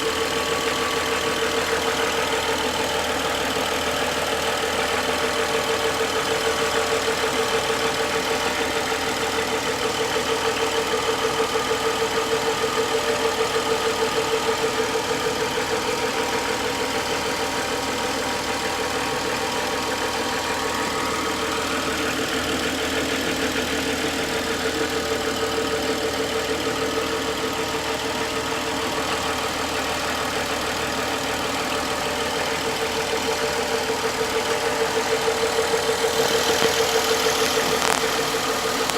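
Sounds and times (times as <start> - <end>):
car engine idling: 0.0 - 38.9
engine knocking: 0.0 - 38.9.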